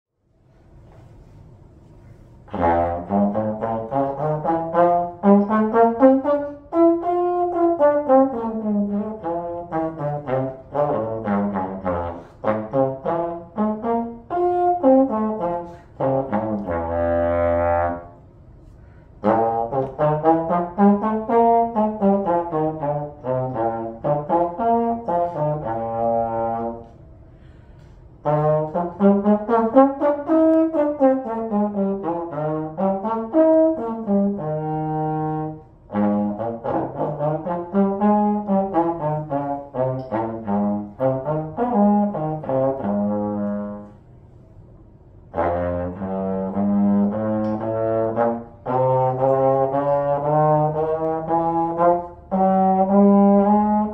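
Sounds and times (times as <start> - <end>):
solo trombone playing: 2.4 - 27.1, 28.2 - 44.1, 45.3 - 53.9.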